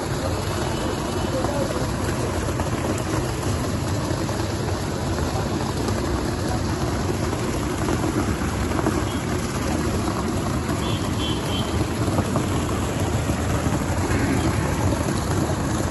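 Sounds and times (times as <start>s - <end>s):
hot tub jets churning water: 0.0s - 15.9s
waterfall spout running: 0.0s - 15.9s.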